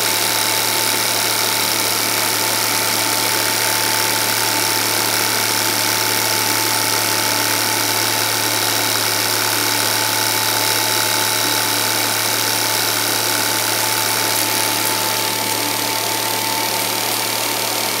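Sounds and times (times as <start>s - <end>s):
film projector running: 0.0s - 18.0s.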